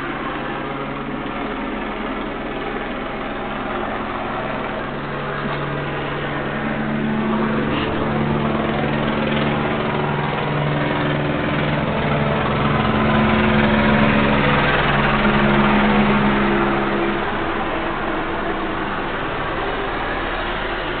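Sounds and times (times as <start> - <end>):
motor humming: 0.1 - 21.0.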